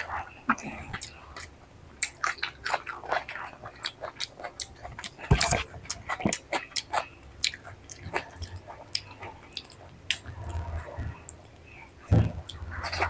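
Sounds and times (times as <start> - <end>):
chewing and biting food: 0.1 - 11.6.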